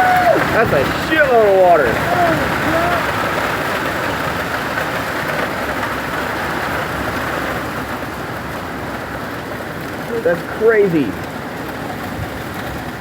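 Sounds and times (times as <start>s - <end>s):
heavy rain and hail: 0.0s - 13.0s.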